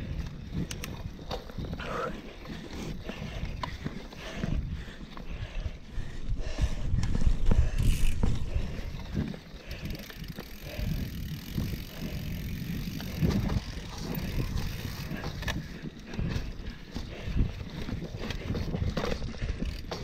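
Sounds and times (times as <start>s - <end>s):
bike frame and chain rattling: 0.0s - 5.5s, 7.0s - 20.0s
bike tyres rumbling on dirt: 0.0s - 20.0s.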